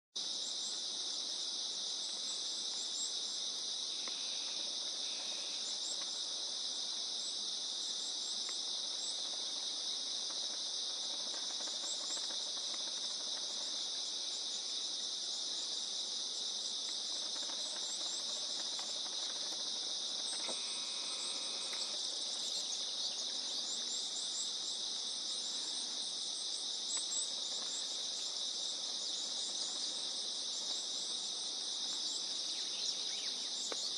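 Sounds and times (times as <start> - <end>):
high-pitched insect chorus: 0.2 - 33.9.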